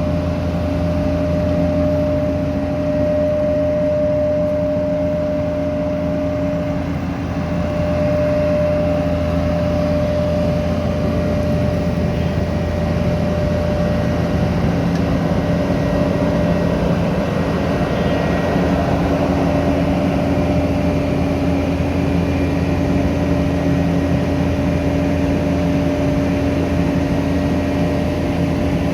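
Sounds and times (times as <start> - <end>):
paving machinery engine rumble: 0.0 - 28.9.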